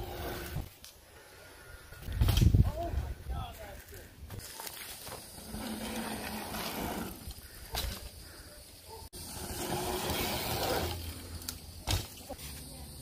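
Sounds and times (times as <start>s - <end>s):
bike tyres rolling: 0.0s - 13.0s.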